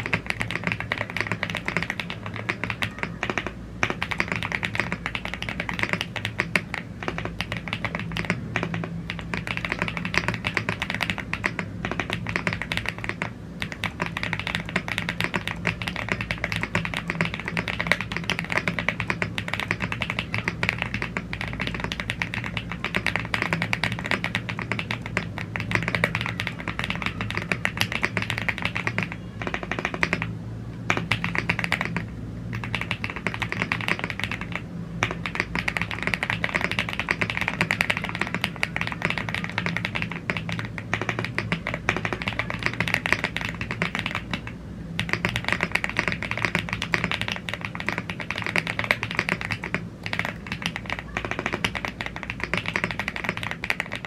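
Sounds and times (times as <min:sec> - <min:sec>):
mechanical keyboard typing: 0:00.0 - 0:54.0
steady low hum: 0:00.0 - 0:54.0.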